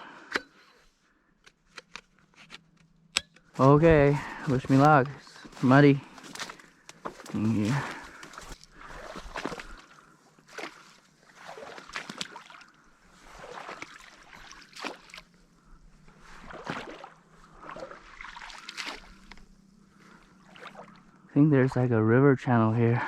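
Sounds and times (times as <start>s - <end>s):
wading through muddy water: 3.5s - 23.0s.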